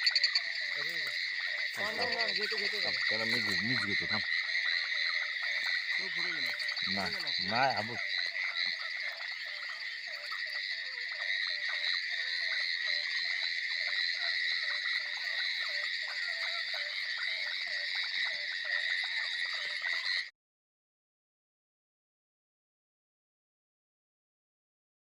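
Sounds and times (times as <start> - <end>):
frogs croaking: 0.0 - 20.3.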